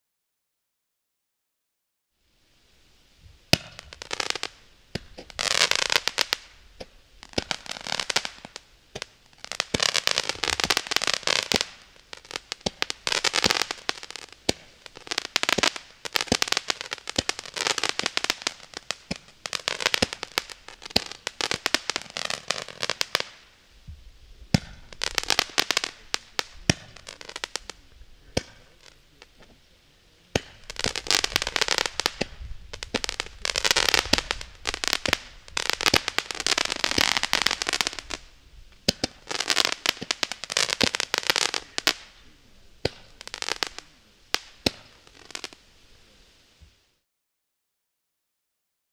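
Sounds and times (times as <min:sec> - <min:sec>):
firework shots hissing: 0:03.2 - 0:46.9
sharp crackling pops: 0:03.4 - 0:46.9.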